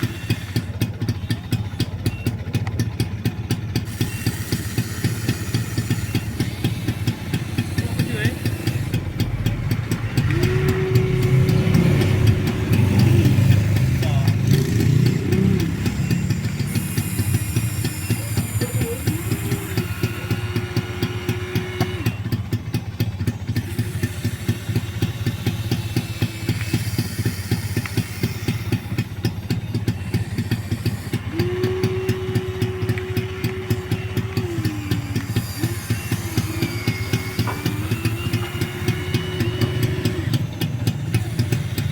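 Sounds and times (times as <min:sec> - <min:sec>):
constant buzzing hum: 0:00.0 - 0:41.9
toy excavator motors whining: 0:00.0 - 0:41.9.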